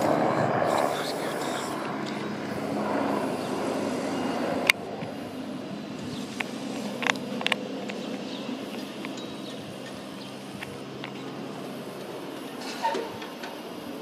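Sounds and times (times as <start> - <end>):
distant helicopter droning: 0.0 - 14.0.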